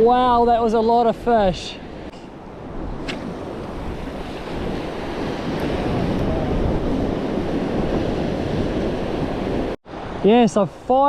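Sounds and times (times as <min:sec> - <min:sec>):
wind on microphone: 0:01.4 - 0:10.3
surf washing onto shore: 0:01.8 - 0:11.0.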